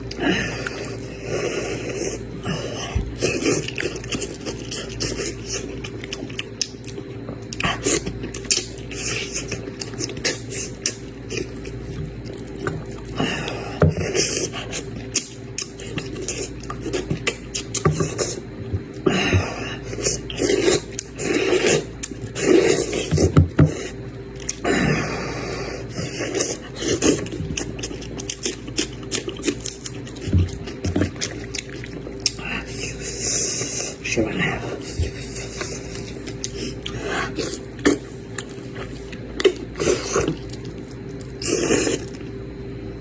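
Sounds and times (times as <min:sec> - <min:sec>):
chewing: 0:00.0 - 0:19.0, 0:26.0 - 0:33.8, 0:34.8 - 0:42.4.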